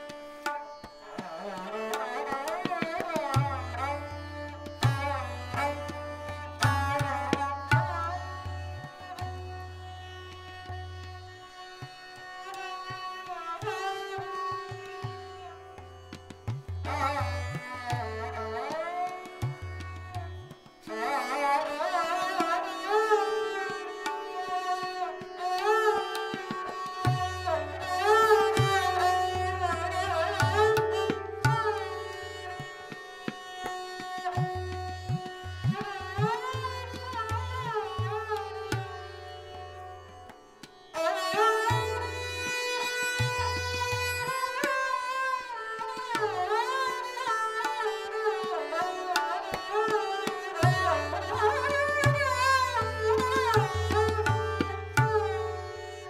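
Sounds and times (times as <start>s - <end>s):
tabla drumming: 0.0s - 21.0s, 21.6s - 56.0s
string instrument melody: 0.0s - 56.0s.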